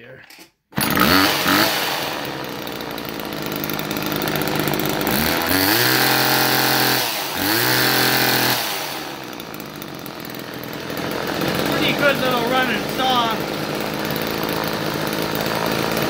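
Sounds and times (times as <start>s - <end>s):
chainsaw engine idling and revving: 0.8s - 16.0s.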